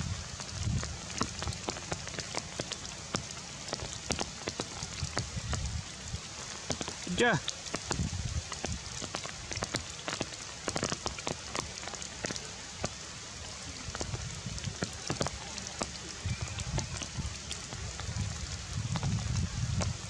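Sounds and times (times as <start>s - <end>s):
drips striking leaves: 0.0s - 20.0s
rain on foliage: 0.0s - 20.0s.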